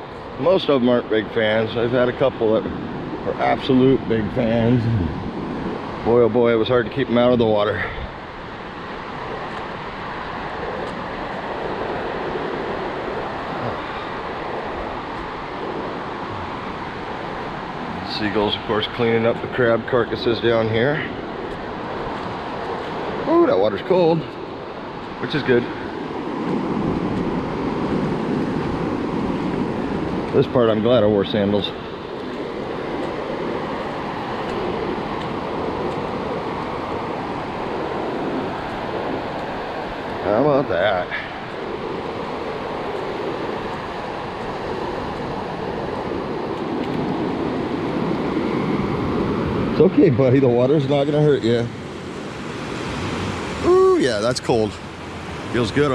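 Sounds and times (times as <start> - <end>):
ocean surf washing ashore: 0.0 - 55.9
wind on microphone: 0.0 - 55.9.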